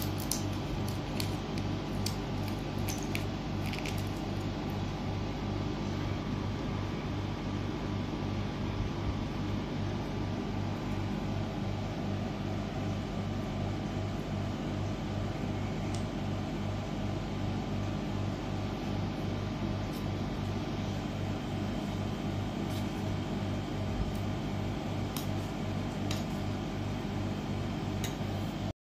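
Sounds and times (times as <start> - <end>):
electric appliance hum: 0.0 - 28.7.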